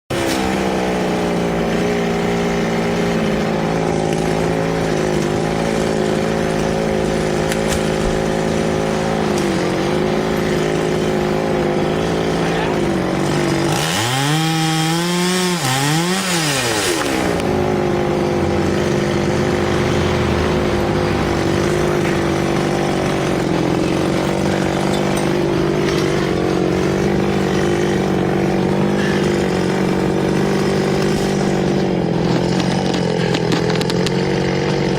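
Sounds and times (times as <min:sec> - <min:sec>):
chainsaw running at high speed: 0:00.1 - 0:34.9.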